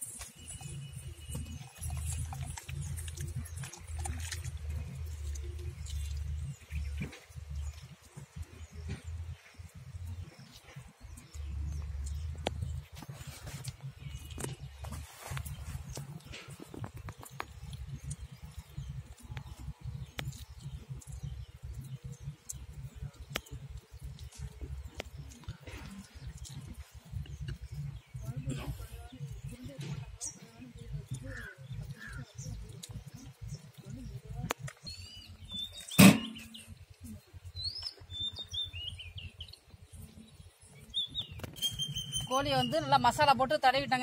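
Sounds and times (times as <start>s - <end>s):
hands squelching wet paste: 0.0s - 43.2s
small birds chirping: 0.0s - 44.0s
low uneven rumble: 0.6s - 41.4s
sharp wet clicks: 1.4s - 14.8s, 15.4s - 28.4s, 29.3s - 38.7s.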